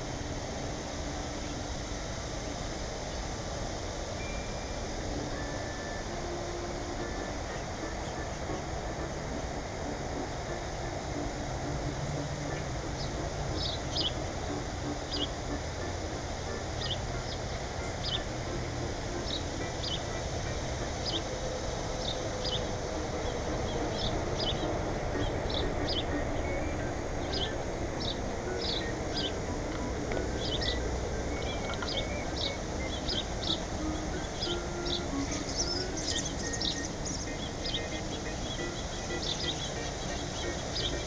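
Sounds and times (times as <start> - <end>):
songbirds chirping: 0.0 - 41.0
steady background noise: 0.0 - 41.0.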